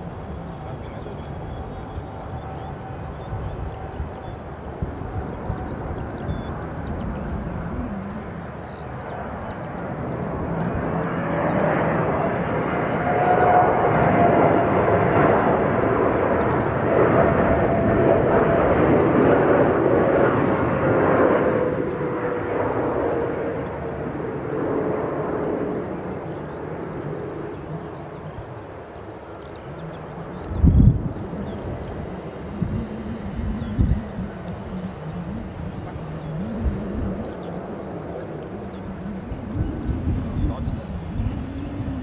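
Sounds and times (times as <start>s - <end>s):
jet engine whine falling in pitch: 0.0s - 42.0s
jet plane flying past: 0.0s - 42.0s.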